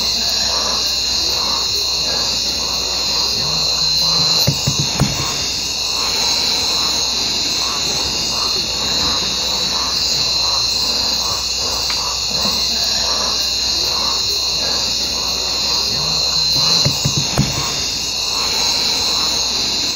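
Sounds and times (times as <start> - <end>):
insect chorus shrill drone: 0.0 - 19.9
pulsing insect call: 0.0 - 19.9.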